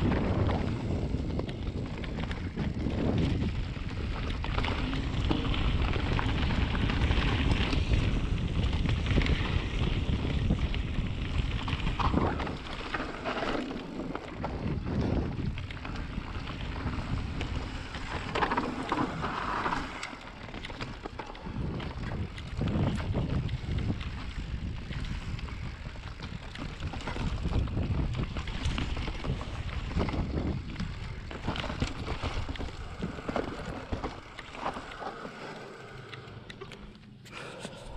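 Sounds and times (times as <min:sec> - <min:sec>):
wind buffeting microphone: 0:00.0 - 0:36.6
tyres on dirt: 0:00.0 - 0:37.9.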